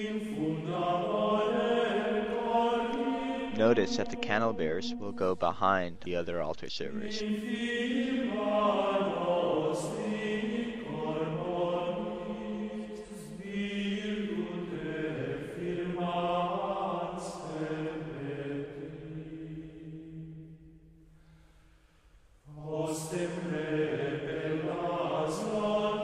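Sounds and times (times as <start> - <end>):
slow sung chant: 0.0 - 26.0.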